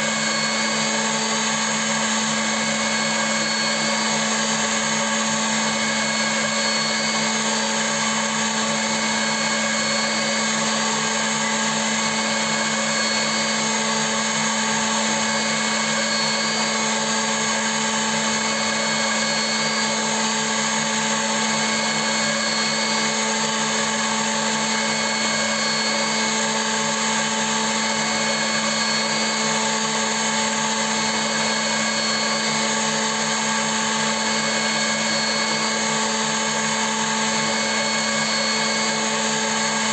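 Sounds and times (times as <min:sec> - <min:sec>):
milling machine motor whine: 0:00.0 - 0:39.9.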